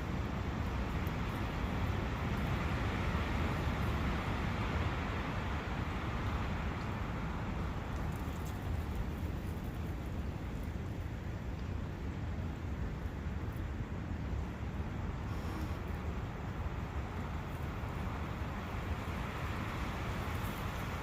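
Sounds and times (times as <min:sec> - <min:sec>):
wind rushing through trees: 0:00.0 - 0:21.0.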